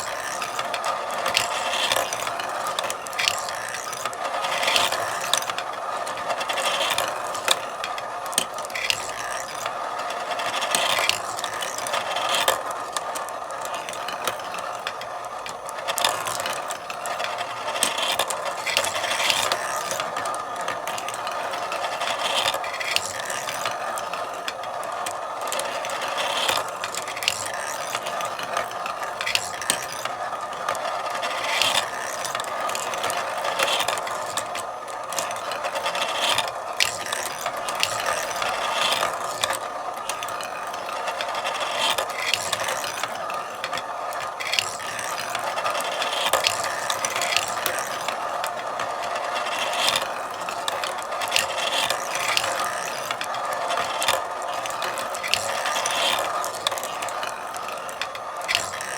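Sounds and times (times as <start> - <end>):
marbles clicking and knocking: 0.0 - 58.9
marbles rolling on track: 0.0 - 58.9.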